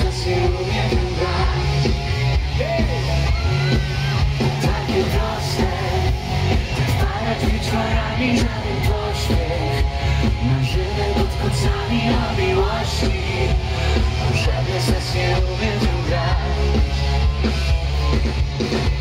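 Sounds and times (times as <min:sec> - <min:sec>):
man singing lead vocals: 0:00.0 - 0:17.2
live pop-rock band playing: 0:00.0 - 0:19.0.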